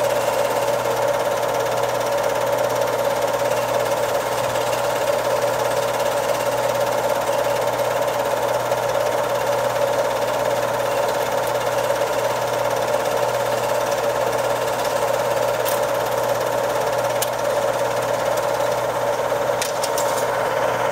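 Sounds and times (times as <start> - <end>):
film projector whirring: 0.0 - 20.9.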